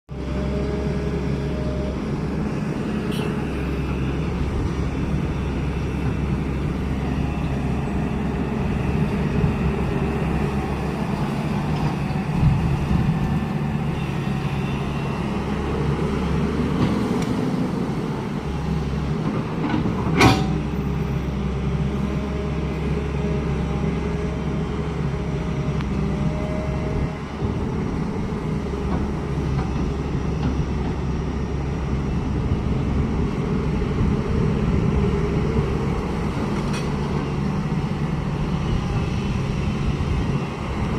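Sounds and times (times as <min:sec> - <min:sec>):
diesel engine humming: 0:00.1 - 0:40.9.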